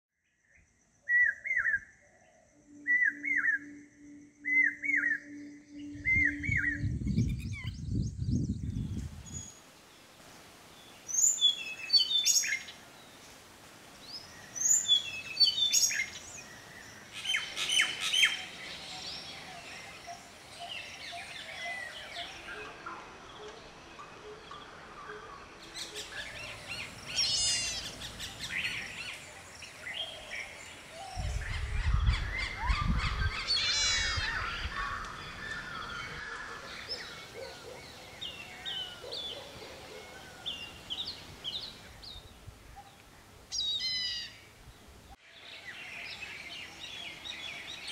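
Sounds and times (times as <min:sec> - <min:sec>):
birds chirping: 0:01.0 - 0:47.9.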